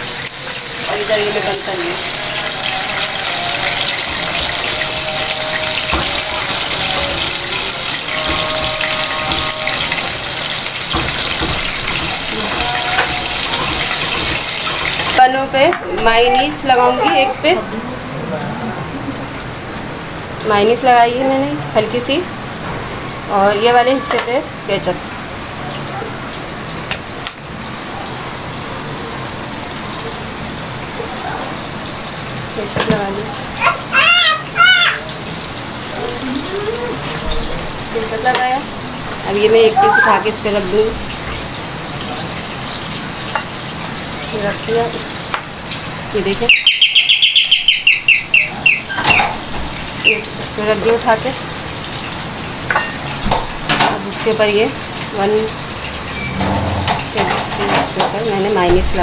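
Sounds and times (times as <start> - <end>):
oil sizzling loudly: 0.0 - 59.0.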